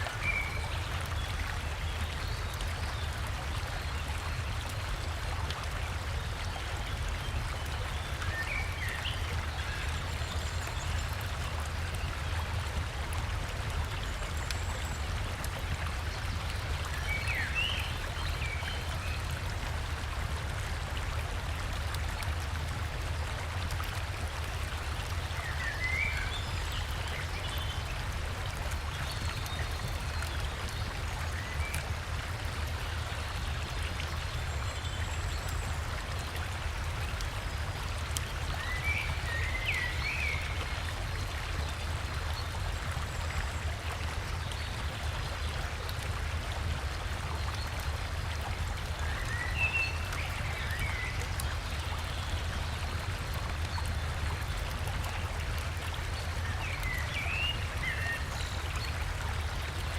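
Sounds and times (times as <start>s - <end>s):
waterfall and river flowing: 0.0s - 59.9s.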